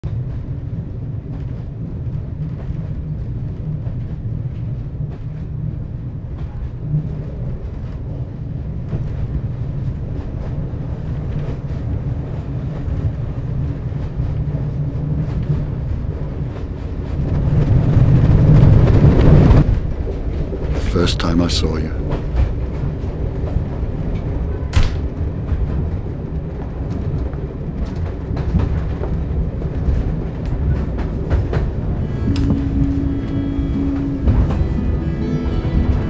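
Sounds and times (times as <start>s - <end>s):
passenger train rumbling: 0.0s - 36.0s.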